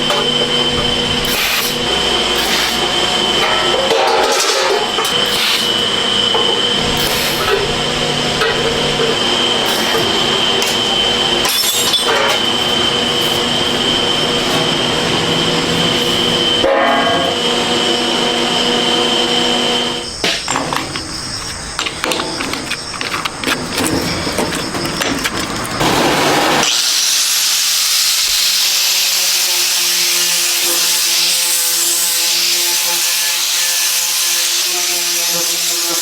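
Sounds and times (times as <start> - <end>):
high-pitched machine whine: 0.0 - 23.0, 23.8 - 36.0
factory machinery noise: 0.0 - 36.0.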